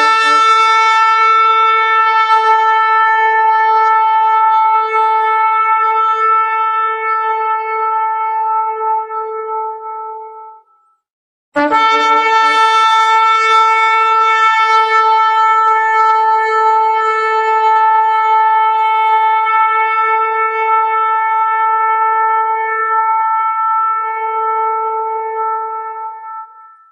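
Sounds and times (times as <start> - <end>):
ram's horn blast: 0.0 - 10.7, 11.6 - 26.8.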